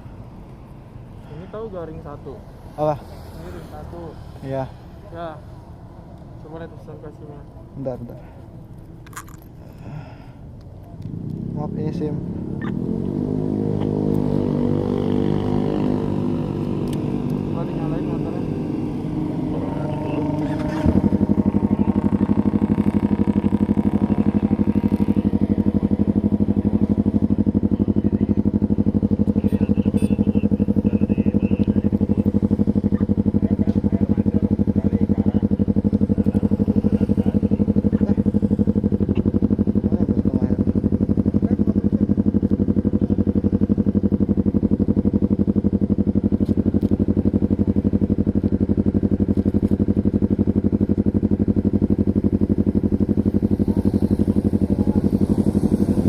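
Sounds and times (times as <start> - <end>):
motorcycle engine starting and idling: 6.1 - 56.0.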